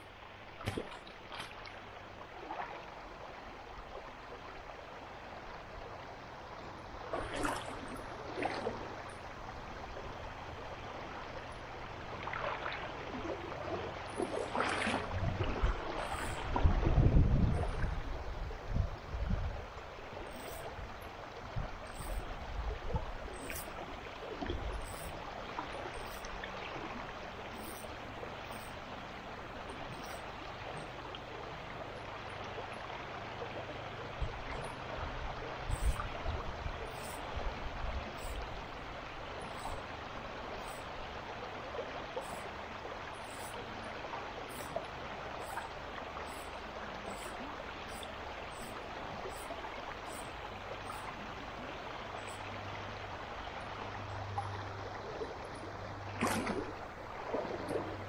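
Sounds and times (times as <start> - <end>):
stream water running over rocks: 0.0 - 58.0.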